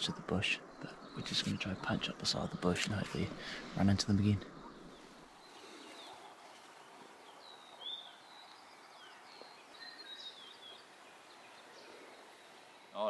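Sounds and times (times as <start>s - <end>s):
faint birds chirping: 0.0s - 13.0s
low outdoor hiss: 0.0s - 13.0s.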